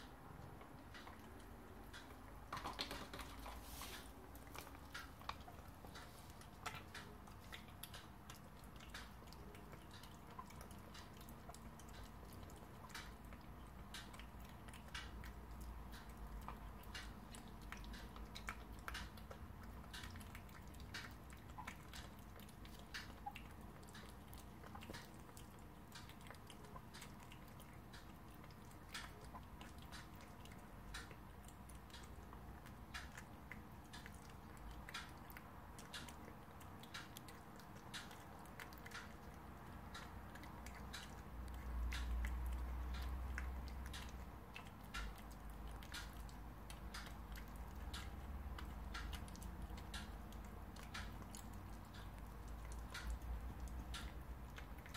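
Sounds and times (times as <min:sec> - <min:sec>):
cat chewing wet food: 0:00.0 - 0:54.9.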